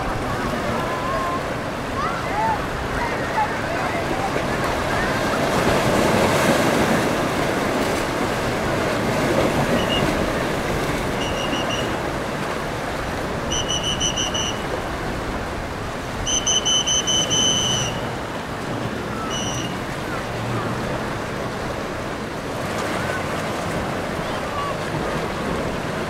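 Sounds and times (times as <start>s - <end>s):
surf and boat wash: 0.0s - 26.0s.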